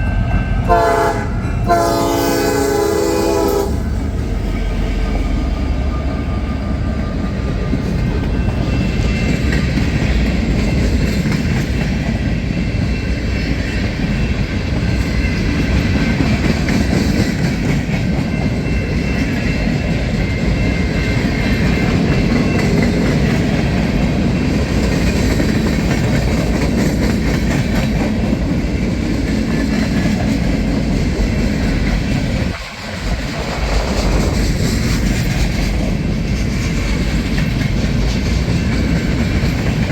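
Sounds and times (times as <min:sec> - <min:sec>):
train rolling past: 0:00.0 - 0:39.9.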